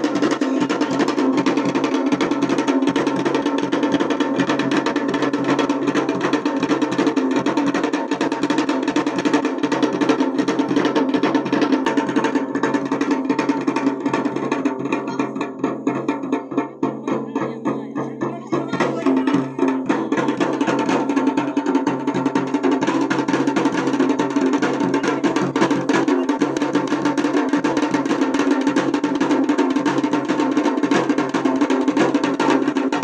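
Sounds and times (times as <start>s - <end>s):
fast continuous drumming: 0.0s - 33.0s.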